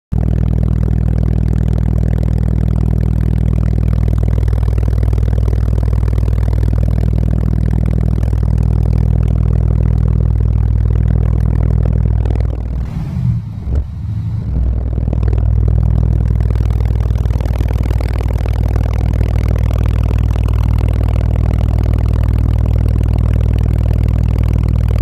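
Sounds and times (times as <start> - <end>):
loud deep bass: 0.1 - 25.0.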